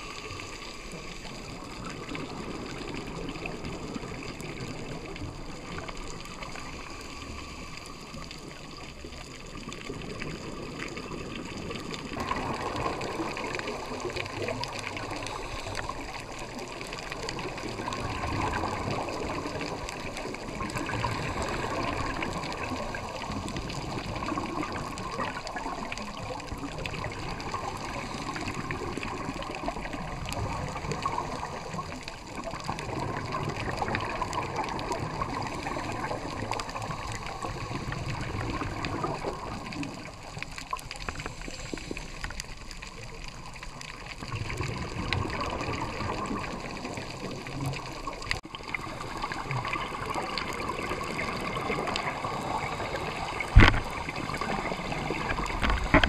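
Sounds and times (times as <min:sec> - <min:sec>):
diver's bubbles gurgling underwater: 0:00.0 - 0:56.0.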